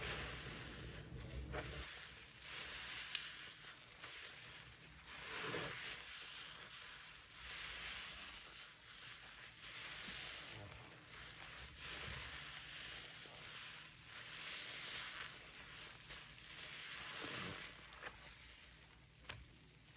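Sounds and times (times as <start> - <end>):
sponge squishing in soapy water: 0.0 - 19.9.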